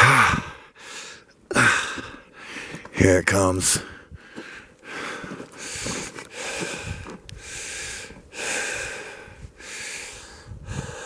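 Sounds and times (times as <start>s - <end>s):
person breathing heavily: 0.0s - 2.9s, 3.7s - 11.0s.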